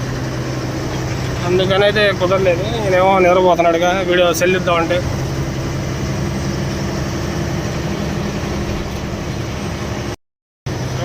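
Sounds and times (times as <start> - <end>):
lorry diesel engine running: 0.0 - 11.0
road noise: 0.0 - 11.0.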